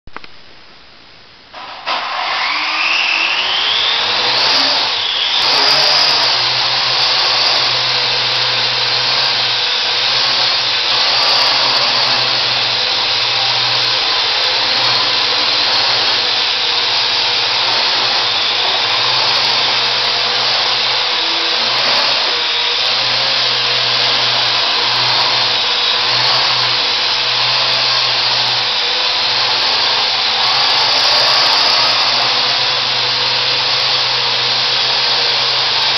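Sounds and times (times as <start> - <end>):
quadcopter propellers whirring: 1.9 - 35.9.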